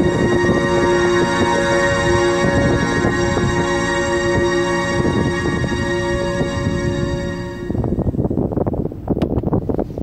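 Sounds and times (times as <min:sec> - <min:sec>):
background music with held tones: 0:00.0 - 0:08.4
wind buffeting microphone: 0:00.0 - 0:10.0.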